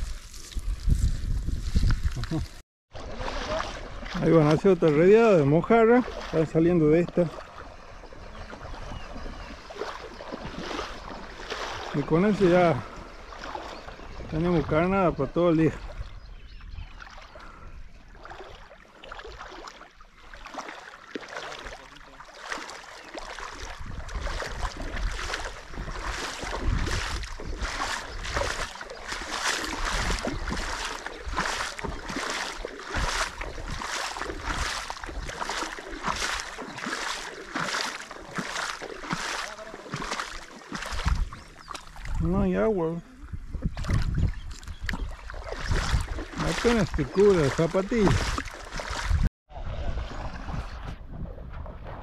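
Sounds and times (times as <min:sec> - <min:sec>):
footsteps splashing through water: 0:00.0 - 0:16.3, 0:16.9 - 0:42.4, 0:43.4 - 0:52.0
running water: 0:01.6 - 0:16.1, 0:18.2 - 0:49.3.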